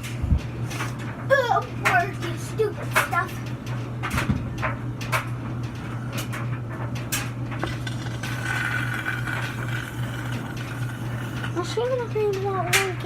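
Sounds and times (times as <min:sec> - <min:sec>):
laundry machine humming: 0:00.0 - 0:13.0.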